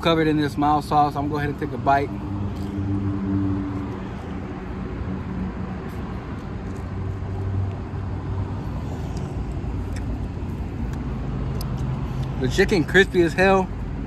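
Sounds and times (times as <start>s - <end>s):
cars passing on street: 0.0s - 14.0s.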